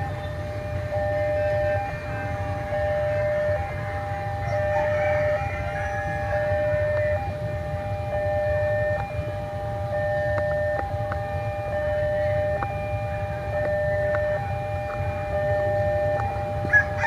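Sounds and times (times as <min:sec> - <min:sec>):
level-crossing alarm two tones: 0:00.0 - 0:17.0.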